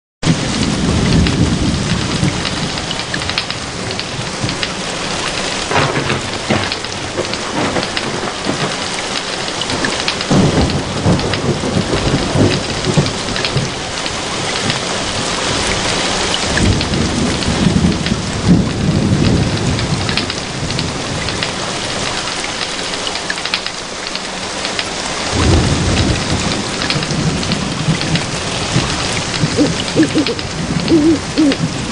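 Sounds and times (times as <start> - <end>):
low thunder rumble: 0.2 - 8.9, 9.7 - 22.0, 25.3 - 31.9
heavy rain on leaves and pavement: 0.2 - 31.9.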